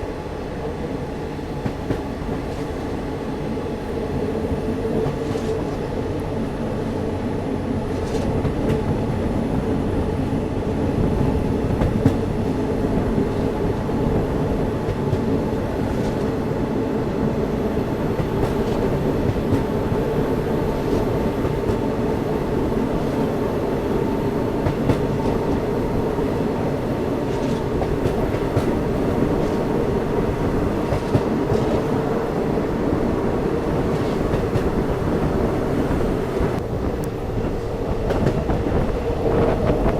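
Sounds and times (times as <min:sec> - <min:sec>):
train wheels rumbling: 0:00.0 - 0:39.9.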